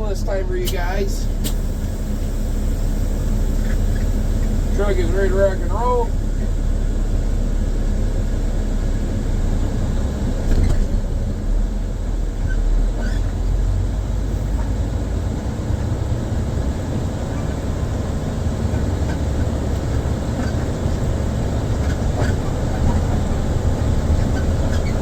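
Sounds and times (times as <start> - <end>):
truck engine rumbling: 0.0 - 25.0.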